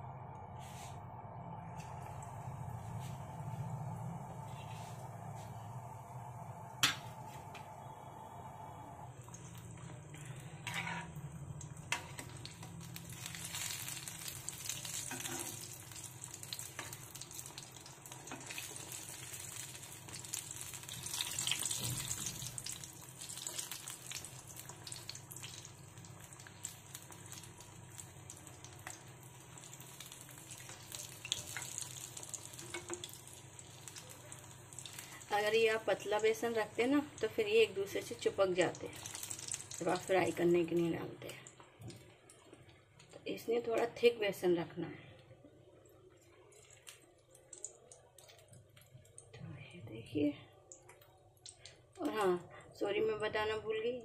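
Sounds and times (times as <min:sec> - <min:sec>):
oil sizzling while deep-frying: 0:01.8 - 0:44.4, 0:45.6 - 0:49.3, 0:50.7 - 0:52.4.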